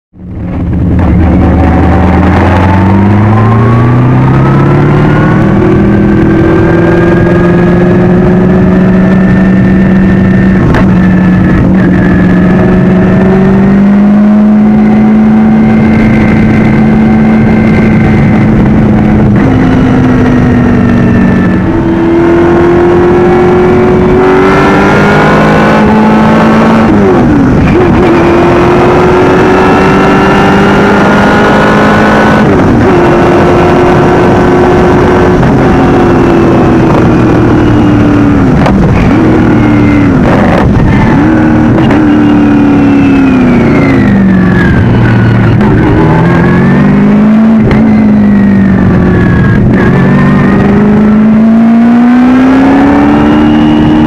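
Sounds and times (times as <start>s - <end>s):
race car engine revving: 0.2s - 54.0s.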